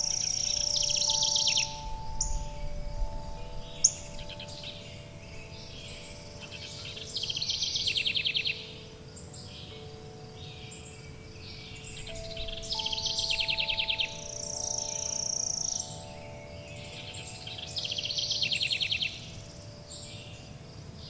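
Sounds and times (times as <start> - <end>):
low steady background noise: 0.0 - 21.0
songbirds singing trills and chirps: 0.0 - 21.0
wind chimes ringing: 0.0 - 21.0.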